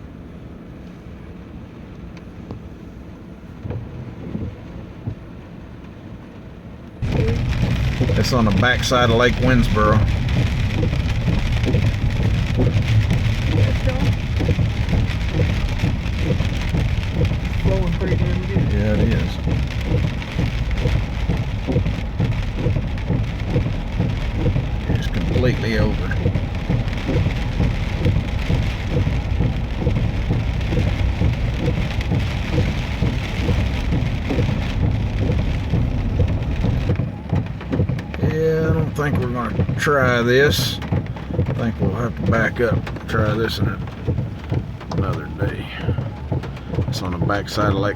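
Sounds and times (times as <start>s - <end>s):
low rumble: 2.5s - 47.9s
floodwater pouring over road: 7.0s - 47.9s
heavy rain falling: 7.0s - 47.9s.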